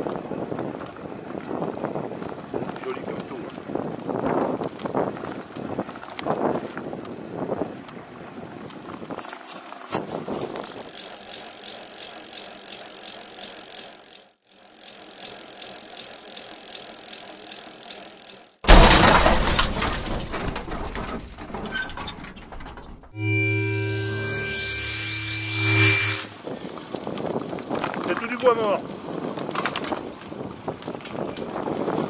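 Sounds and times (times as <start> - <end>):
bicycle tyre and drivetrain whir: 0.0 - 18.6, 23.2 - 32.0.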